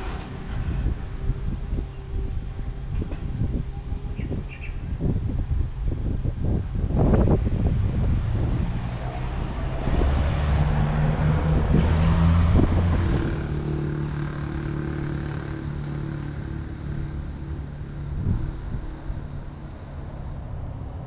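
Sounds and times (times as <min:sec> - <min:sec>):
diesel locomotive engine droning: 0:00.0 - 0:21.0.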